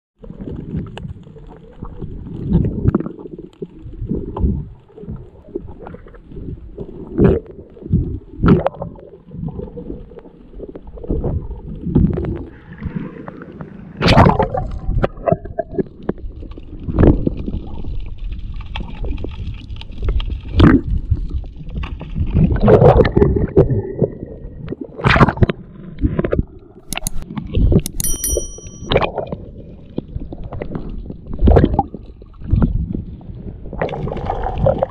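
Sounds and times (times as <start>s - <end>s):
underwater gurgling and rumbling: 0.2s - 27.9s, 28.8s - 34.9s.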